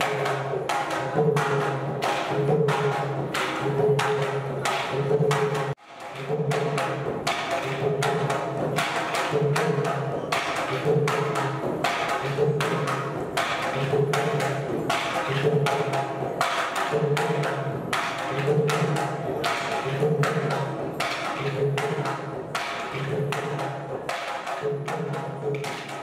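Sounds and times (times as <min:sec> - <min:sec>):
hand-played barrel drum: 0:00.0 - 0:26.0.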